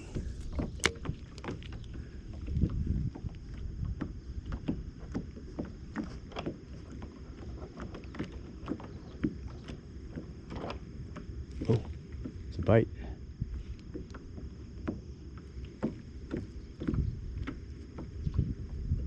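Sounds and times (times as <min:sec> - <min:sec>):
wind rumble on microphone: 0:00.0 - 0:10.1, 0:10.8 - 0:19.0
water lapping against a kayak hull: 0:00.0 - 0:19.0.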